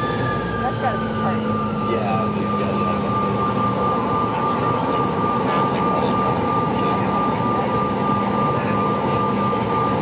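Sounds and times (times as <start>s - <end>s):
aircraft cabin engine rush and whine: 0.0s - 10.0s.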